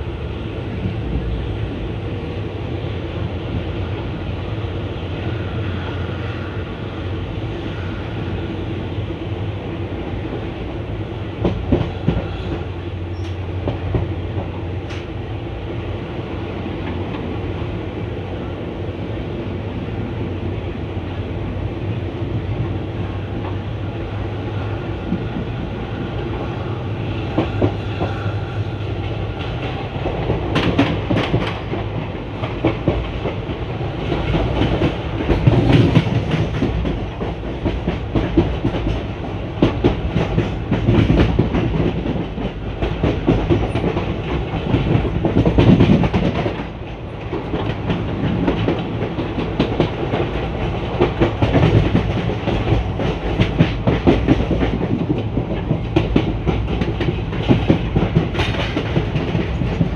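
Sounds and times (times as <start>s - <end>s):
train coach rumbling: 0.0s - 59.9s.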